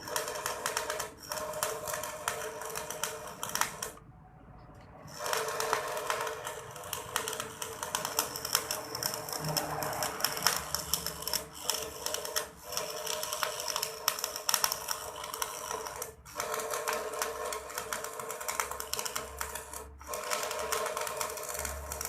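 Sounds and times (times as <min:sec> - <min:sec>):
welding arc crackling: 0:00.0 - 0:04.0, 0:05.1 - 0:22.0.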